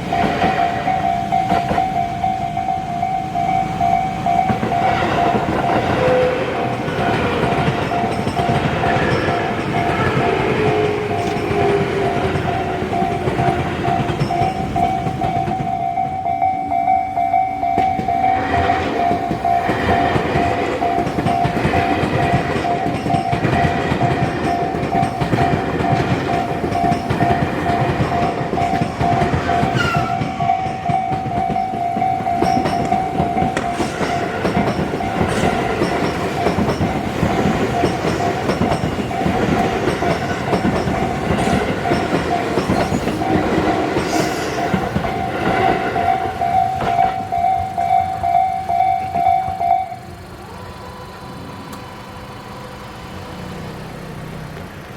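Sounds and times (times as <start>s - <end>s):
level crossing warning bell: 0.0s - 53.4s
electric train passing: 0.0s - 54.9s.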